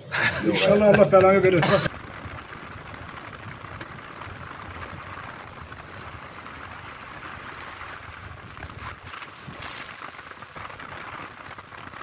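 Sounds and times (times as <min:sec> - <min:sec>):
wind on microphone: 0:01.6 - 0:12.0.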